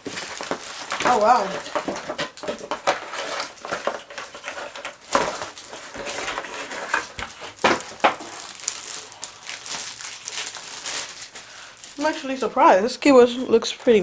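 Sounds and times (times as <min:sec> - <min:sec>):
plastic and cardboard rustling: 0:00.0 - 0:14.0.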